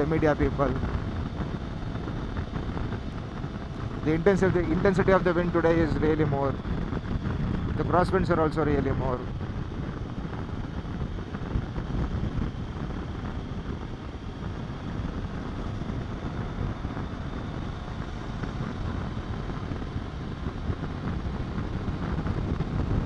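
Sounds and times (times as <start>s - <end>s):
motorcycle engine drone: 0.0s - 23.0s
wind rushing over microphone: 0.0s - 23.0s.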